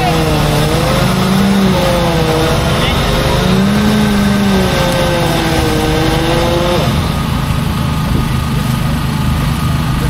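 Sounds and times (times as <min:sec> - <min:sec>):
wavering pitched hum: 0:00.0 - 0:08.7
engine rumbling: 0:00.0 - 0:10.0.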